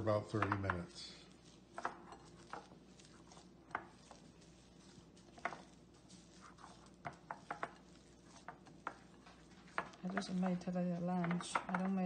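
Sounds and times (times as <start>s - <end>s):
dough squishing against bowl: 0.0s - 12.0s.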